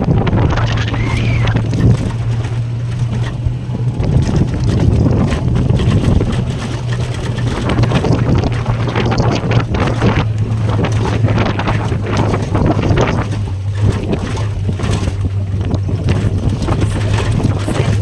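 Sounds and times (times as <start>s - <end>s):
vehicle engine running: 0.0s - 18.0s
wind buffeting microphone: 0.0s - 18.0s.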